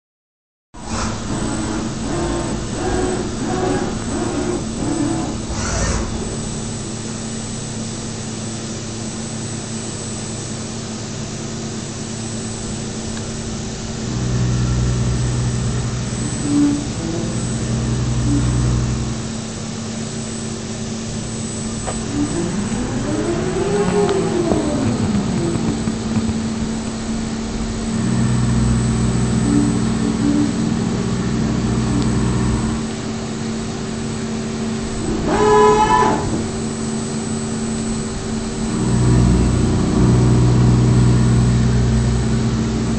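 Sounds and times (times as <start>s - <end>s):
low drone: 0.8s - 8.2s, 13.1s - 19.6s, 20.8s - 42.9s
deep loud hum: 0.8s - 42.9s
milling machine humming and whining: 0.8s - 42.9s.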